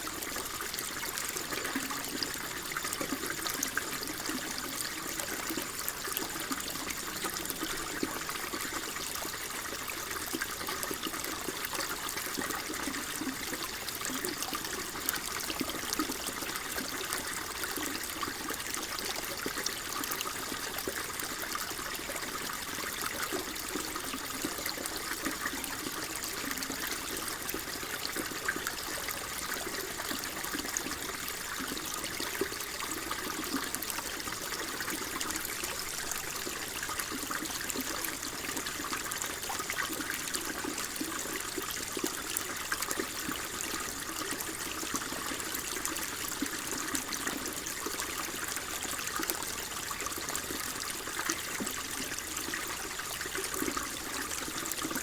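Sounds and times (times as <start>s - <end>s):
trickling stream: 0.0s - 55.0s.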